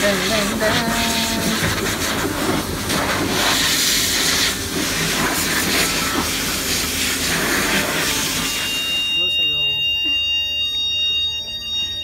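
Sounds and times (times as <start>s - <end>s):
blower dryer rushing air: 0.0s - 12.0s.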